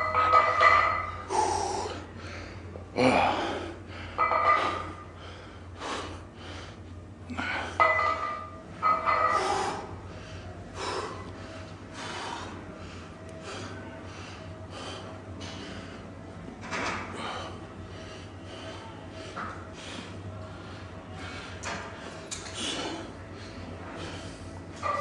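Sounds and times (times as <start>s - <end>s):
man breathing hard: 1.3s - 7.8s, 9.3s - 16.3s, 16.9s - 24.7s.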